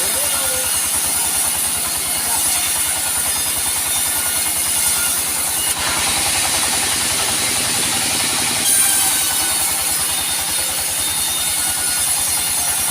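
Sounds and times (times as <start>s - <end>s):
saw hissing: 0.0s - 12.9s
sawmill machine drone: 0.0s - 12.9s.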